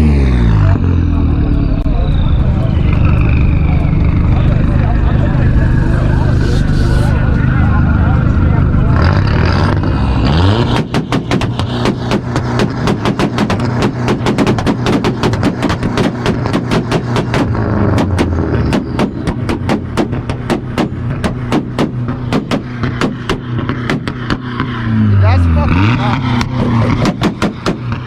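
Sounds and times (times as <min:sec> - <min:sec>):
exhaust popping and banging: 0:00.0 - 0:28.0
low engine note: 0:00.0 - 0:28.0.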